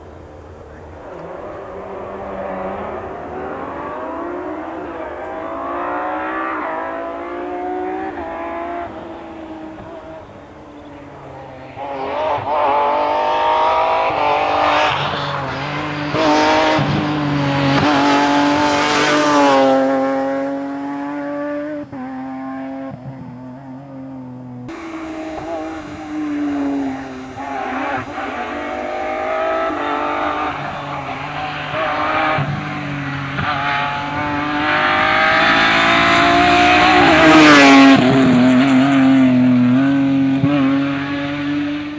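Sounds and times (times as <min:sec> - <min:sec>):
car engine at full throttle: 0:00.0 - 0:41.9.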